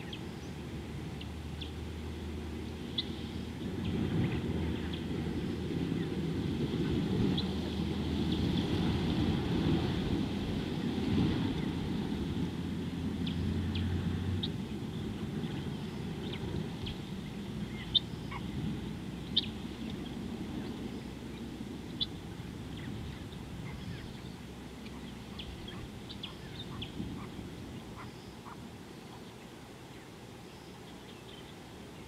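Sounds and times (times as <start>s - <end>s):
birds chirping: 0.0s - 9.2s, 13.1s - 32.0s
low rumbling hiss: 0.0s - 32.0s.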